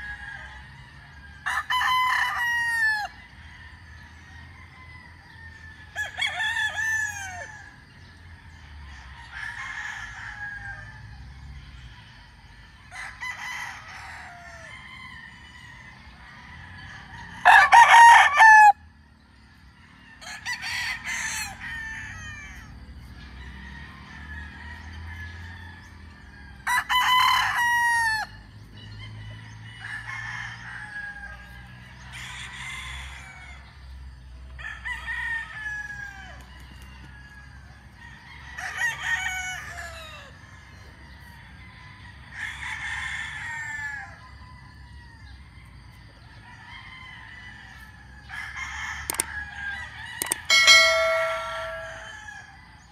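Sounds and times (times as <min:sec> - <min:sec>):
roosters crowing: 0:00.0 - 0:52.9.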